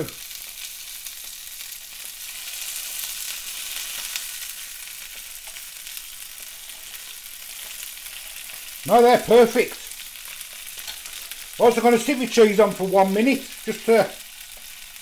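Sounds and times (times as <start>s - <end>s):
burger patties sizzling on grill: 0.0s - 15.0s.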